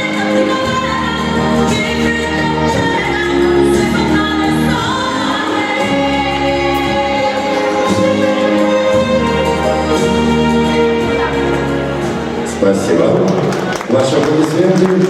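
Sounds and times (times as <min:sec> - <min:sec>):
ballroom dance music with singing: 0:00.0 - 0:13.2.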